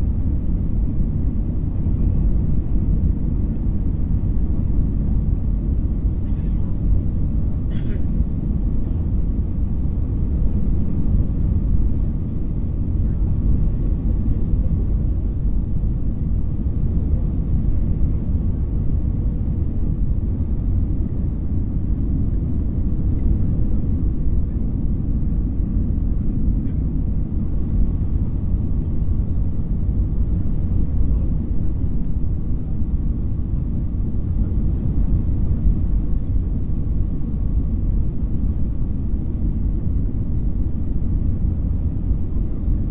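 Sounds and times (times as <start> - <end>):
airliner cabin engine drone: 0.0 - 42.9.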